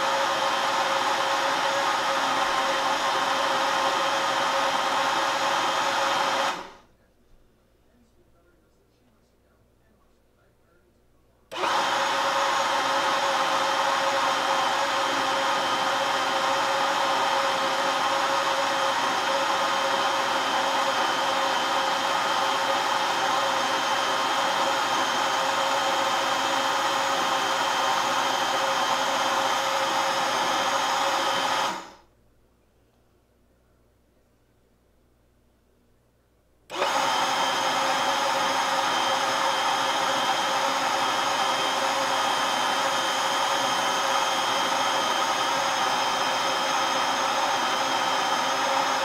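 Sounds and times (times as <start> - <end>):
blender motor grinding nuts: 0.0 - 6.8, 11.6 - 32.0, 36.7 - 49.0.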